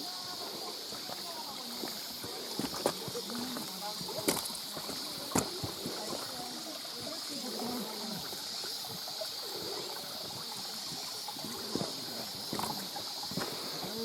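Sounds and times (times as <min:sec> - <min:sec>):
stream gurgling over rocks: 0:00.0 - 0:14.0.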